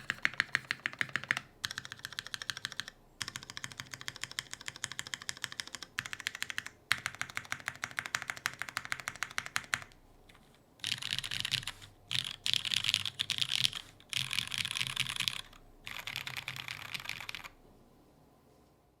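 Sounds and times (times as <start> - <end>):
mechanical keyboard typing: 0.0 - 10.0, 10.8 - 17.6.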